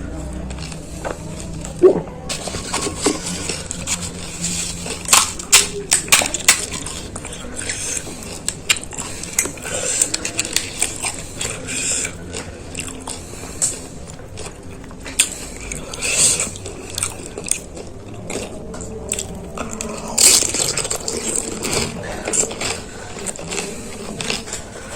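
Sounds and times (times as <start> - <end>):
crisp shells crunching and chewing: 0.1 - 24.9.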